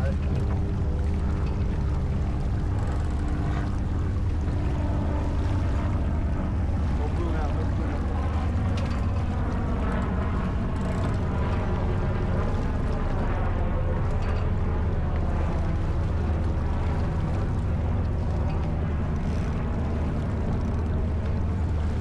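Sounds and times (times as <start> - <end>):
water rushing past hull: 0.0 - 22.0
wind rumble on microphone: 0.0 - 22.0.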